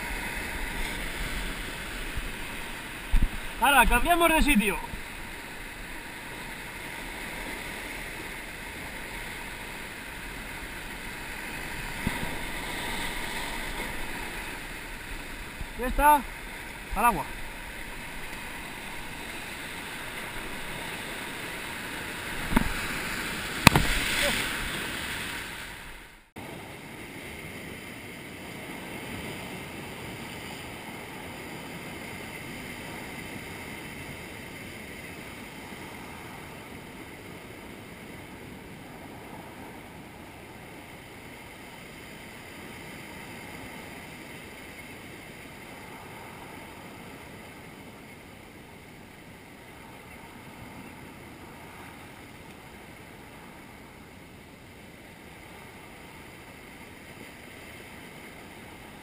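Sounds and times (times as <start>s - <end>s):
waves breaking over rocks: 0.0s - 59.0s.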